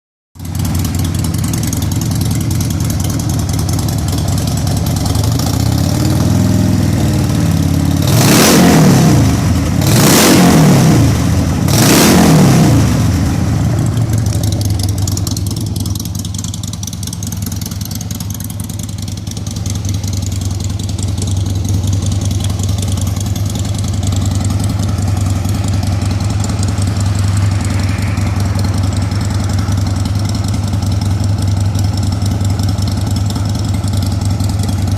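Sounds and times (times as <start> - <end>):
engine exhaust idling and revving: 0.4 - 34.9.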